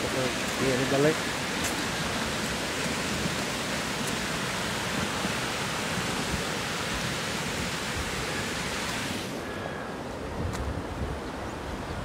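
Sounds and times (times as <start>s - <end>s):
water rushing down spillway: 0.0s - 9.8s.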